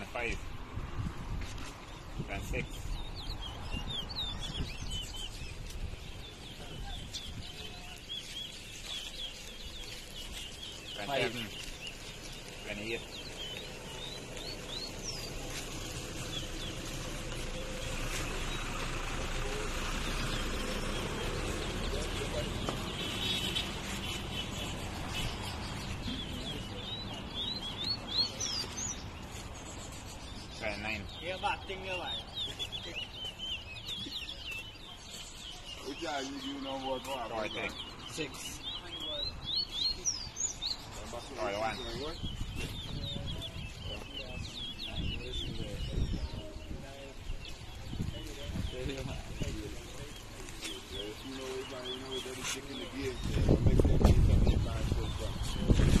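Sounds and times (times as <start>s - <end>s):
finches singing high chirps: 1.6s - 56.0s.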